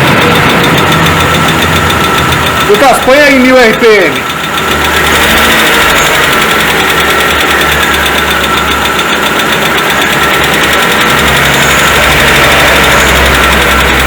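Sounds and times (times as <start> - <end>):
car engine fast idle: 0.0 - 14.0
engine valve ticking: 0.0 - 14.0.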